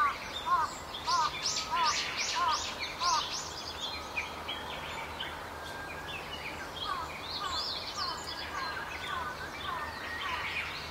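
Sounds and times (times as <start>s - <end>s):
songbirds chirping: 0.0s - 10.9s.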